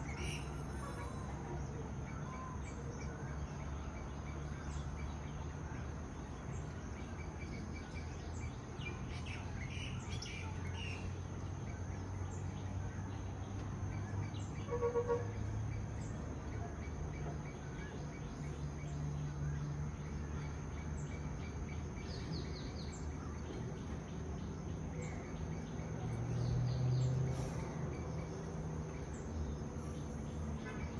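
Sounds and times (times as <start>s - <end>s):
wild birds chirping: 0.0s - 30.9s.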